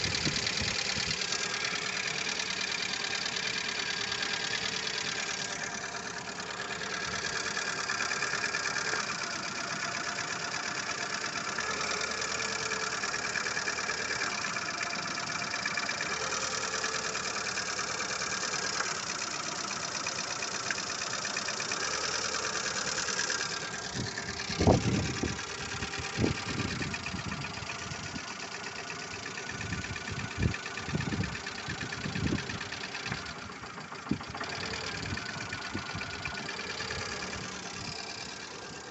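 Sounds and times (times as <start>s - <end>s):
car engine idling: 0.0s - 38.9s
fast ticking clatter of lifters: 0.0s - 38.9s.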